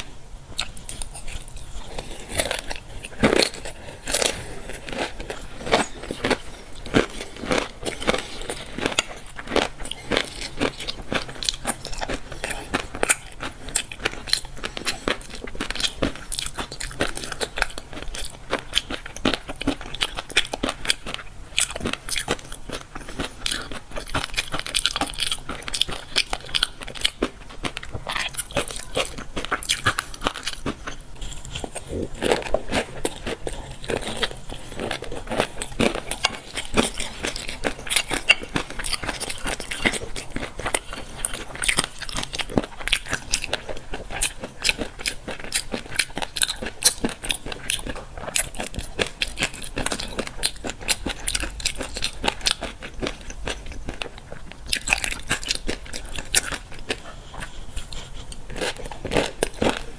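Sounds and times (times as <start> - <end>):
chewing popping fish eggs: 0.0 - 59.9.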